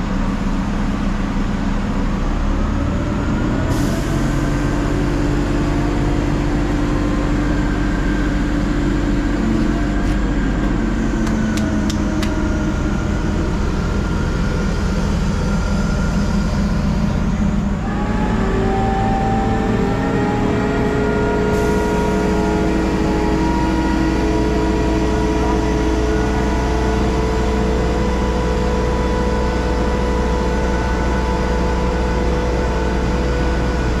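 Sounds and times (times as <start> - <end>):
crane diesel engine running: 0.0 - 34.0
high whine: 4.3 - 34.0.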